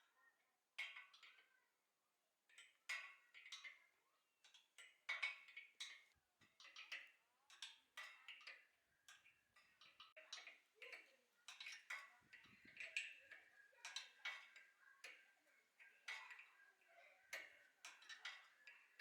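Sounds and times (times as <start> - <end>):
faint clicks and light taps: 2.4 - 19.0.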